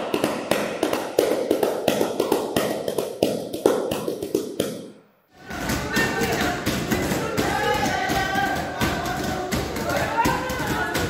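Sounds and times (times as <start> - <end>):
hand-slapped pad drumming: 0.0 - 11.0.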